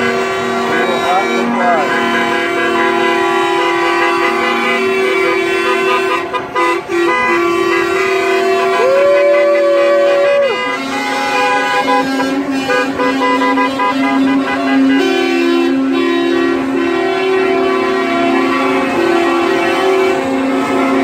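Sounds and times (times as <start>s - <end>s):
truck air horn rising in pitch: 0.0s - 21.0s
truck and car horns blaring: 0.0s - 21.0s.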